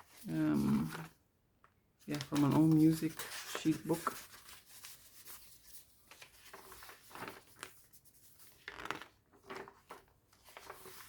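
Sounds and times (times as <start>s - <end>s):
paper pages rustling: 0.0s - 1.2s, 2.0s - 11.0s.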